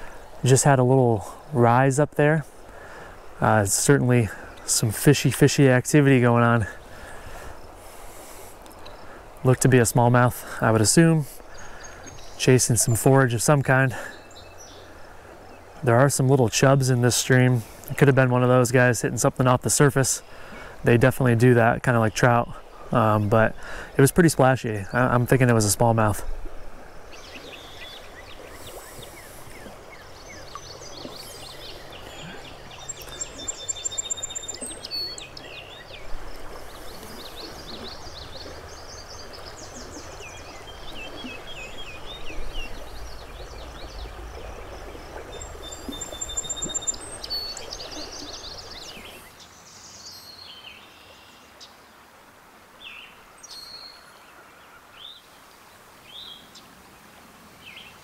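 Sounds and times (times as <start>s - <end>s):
shallow river rushing: 0.0s - 49.4s
birds chirping: 0.0s - 51.8s.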